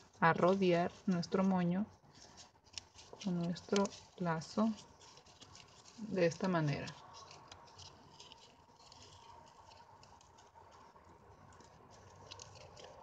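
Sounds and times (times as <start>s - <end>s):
ribbon rustling: 0.0s - 13.0s.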